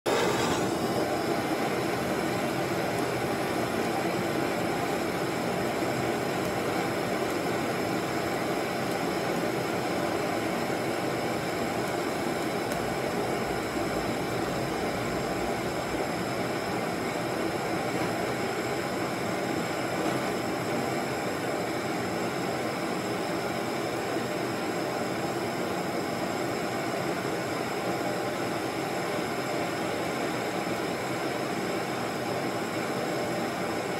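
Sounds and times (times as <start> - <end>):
gas torch hissing: 0.0 - 33.9.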